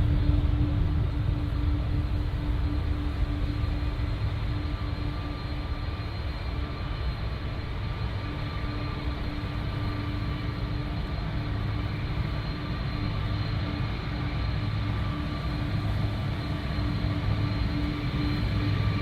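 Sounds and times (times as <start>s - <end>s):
faint steady whine: 0.0s - 19.0s
jet engines rumbling: 0.0s - 19.0s.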